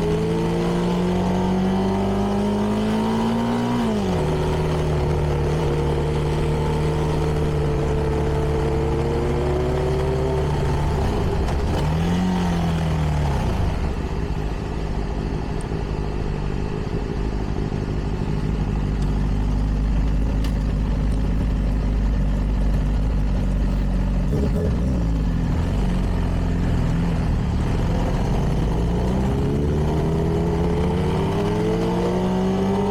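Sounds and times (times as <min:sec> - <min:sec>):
motorcycle engine: 0:00.0 - 0:32.9.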